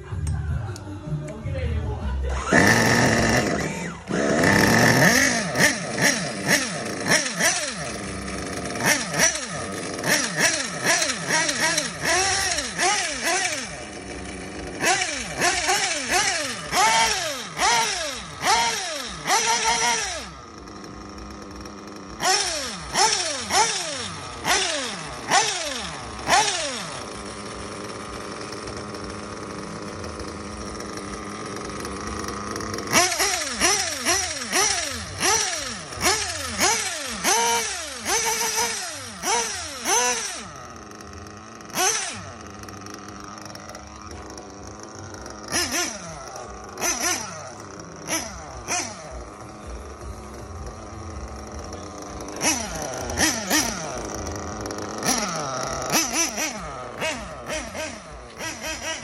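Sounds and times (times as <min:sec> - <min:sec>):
nitro engine idling: 0:00.0 - 0:59.0
nitro engine revving: 0:01.7 - 0:59.0.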